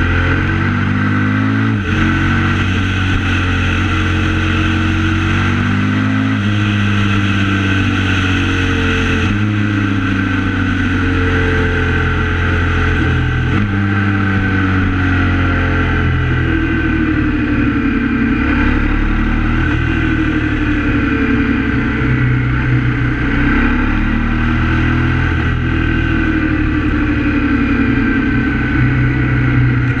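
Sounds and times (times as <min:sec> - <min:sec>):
motorcycle engine while riding: 0:00.0 - 0:30.0.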